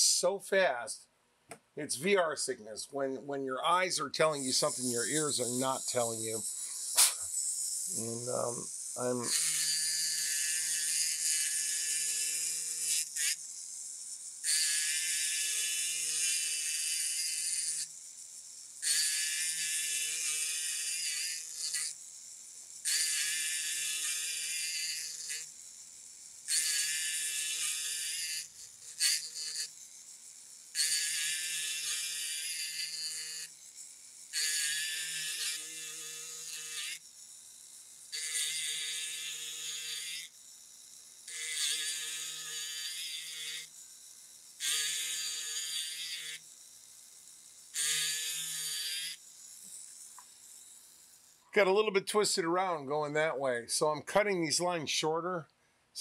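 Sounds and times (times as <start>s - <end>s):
powered cutting wheel buzzing: 4.2s - 51.4s.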